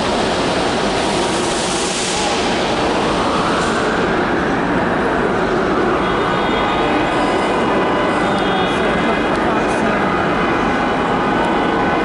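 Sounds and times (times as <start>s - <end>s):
train rushing through station: 0.0s - 12.0s.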